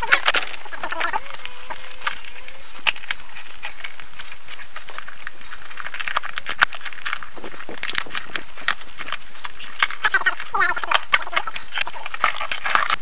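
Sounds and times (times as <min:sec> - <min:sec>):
latex mould peeling off bark: 0:00.0 - 0:13.0.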